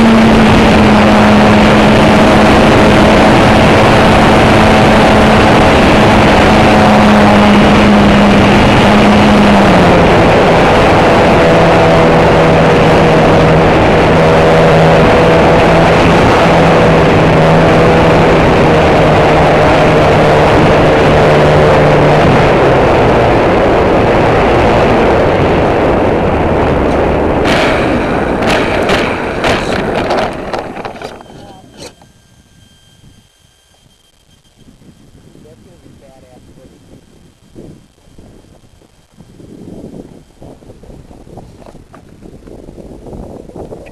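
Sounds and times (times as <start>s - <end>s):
model airplane motor droning: 0.0s - 43.9s
wind buffeting microphone: 0.0s - 43.9s.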